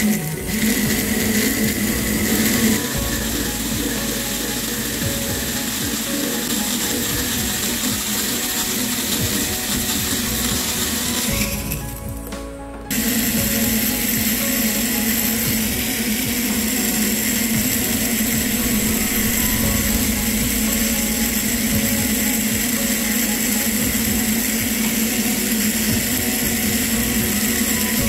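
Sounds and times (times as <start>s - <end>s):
rotary tool grinding metal: 0.0s - 12.0s, 12.9s - 28.0s.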